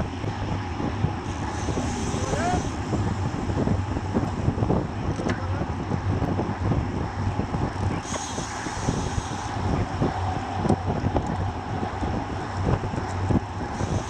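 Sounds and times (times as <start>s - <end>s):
bicycle road noise: 0.0s - 14.0s
wind buffeting microphone: 0.0s - 14.0s.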